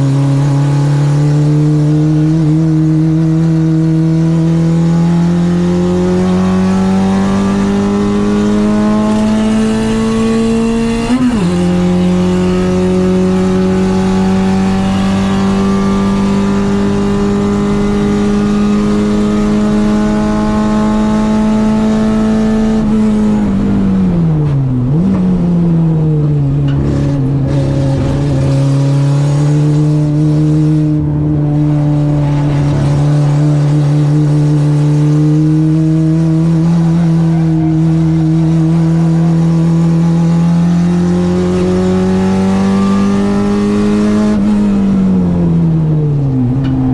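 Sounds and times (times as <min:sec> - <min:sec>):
car engine revving high: 0:00.0 - 0:46.9.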